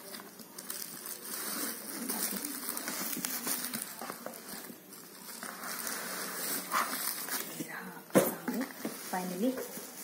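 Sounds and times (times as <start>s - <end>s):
cardboard and bubble wrap rustling: 0.0s - 10.0s.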